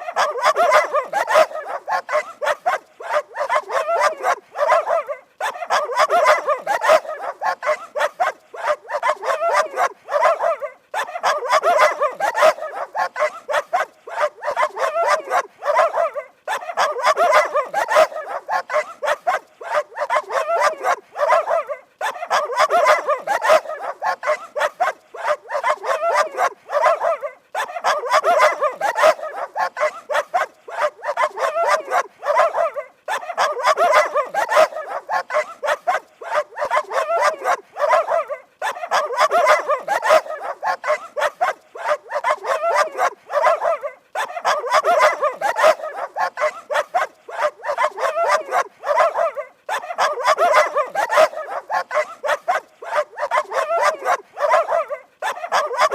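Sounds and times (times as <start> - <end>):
dogs barking fast: 0.0 - 55.9.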